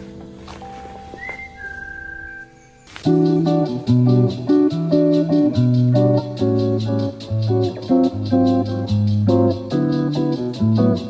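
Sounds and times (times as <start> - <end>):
guitar music with bass and beat: 0.0 - 11.0.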